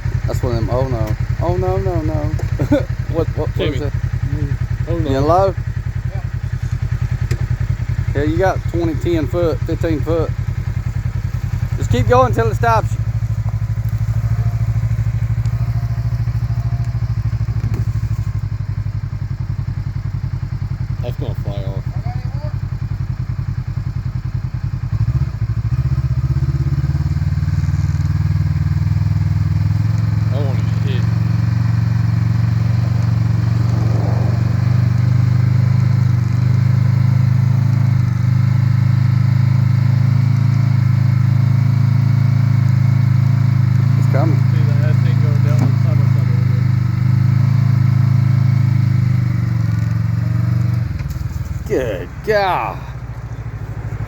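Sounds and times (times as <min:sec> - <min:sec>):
engine running at low revs: 0:00.0 - 0:54.0.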